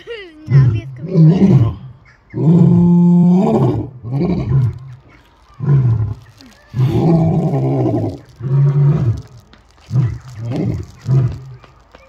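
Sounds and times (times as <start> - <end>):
lion roaring: 0.6 - 11.6.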